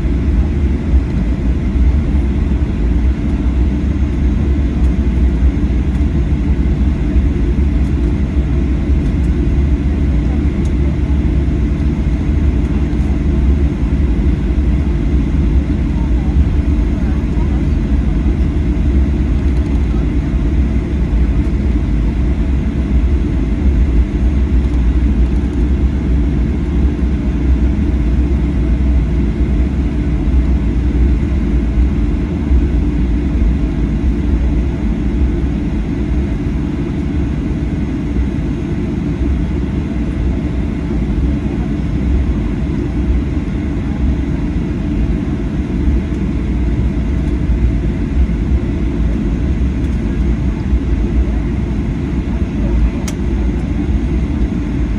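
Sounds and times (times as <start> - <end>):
airliner cabin rumble: 0.0 - 54.9.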